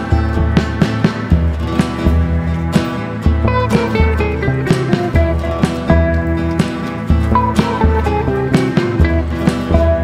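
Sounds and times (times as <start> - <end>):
plucked guitar: 0.0 - 10.0
steady beat: 0.0 - 10.0.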